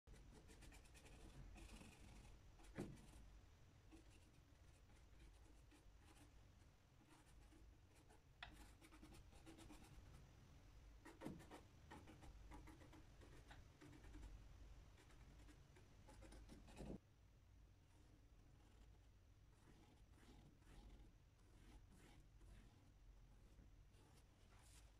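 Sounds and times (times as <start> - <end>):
paintbrush scratching on panel: 0.1 - 10.2, 11.0 - 17.0, 17.8 - 24.9.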